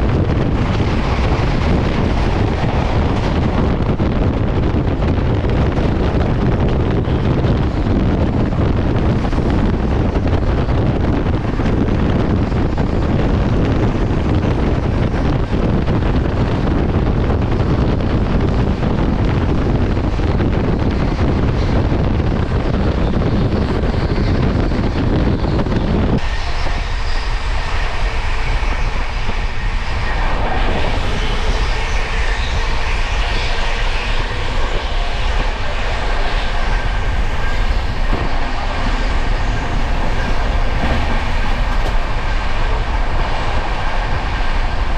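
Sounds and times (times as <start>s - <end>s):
train running at speed: 0.0s - 44.9s.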